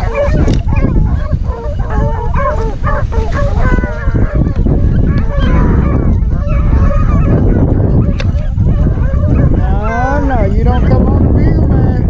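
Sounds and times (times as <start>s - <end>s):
pack of hounds baying: 0.0s - 11.2s.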